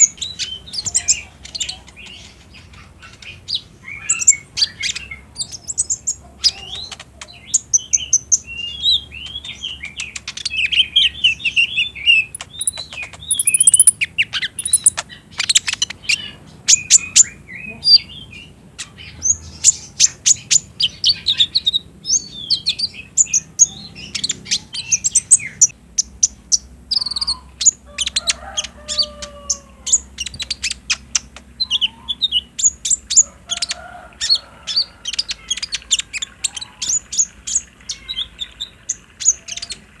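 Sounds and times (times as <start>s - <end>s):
sunbird chirps and trills: 0.0s - 40.0s.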